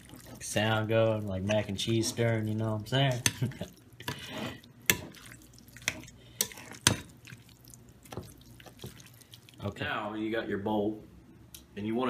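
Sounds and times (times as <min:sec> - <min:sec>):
squishy stirring in bowl: 0:00.0 - 0:09.8.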